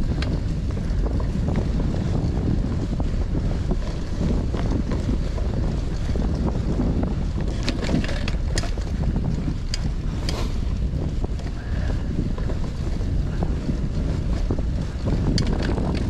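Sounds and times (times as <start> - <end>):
bike clicks and rattles: 0.0 - 16.0
tyres rolling on dirt: 0.0 - 16.0
wind on microphone: 0.0 - 16.0.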